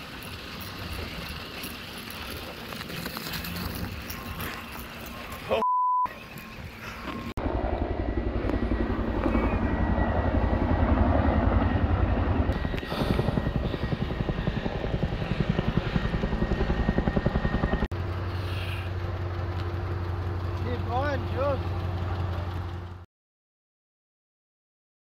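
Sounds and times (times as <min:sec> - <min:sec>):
helicopter rotor beating: 0:00.0 - 0:23.1
low engine hum: 0:00.1 - 0:23.1.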